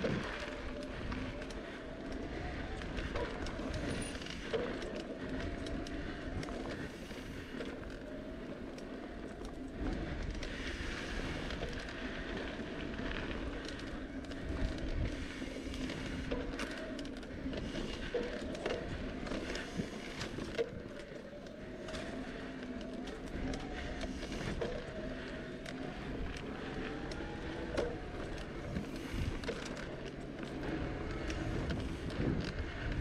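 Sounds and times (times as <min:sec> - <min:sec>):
bicycle tyres on dirt trail: 0:00.0 - 0:33.0
bike rattling over bumps: 0:00.0 - 0:33.0.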